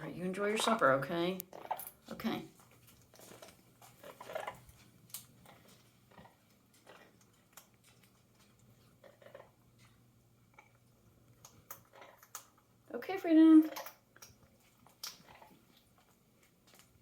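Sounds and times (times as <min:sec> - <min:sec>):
parrot crunching food pellets: 0:00.1 - 0:17.0.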